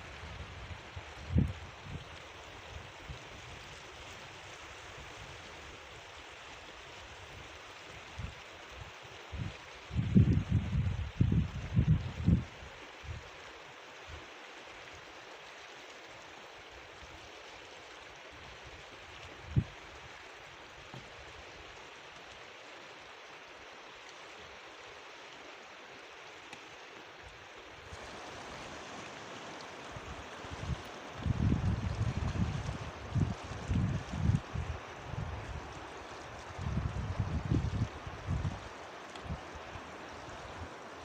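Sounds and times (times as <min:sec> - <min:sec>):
river water rushing: 0:00.0 - 0:10.0, 0:12.6 - 0:41.0.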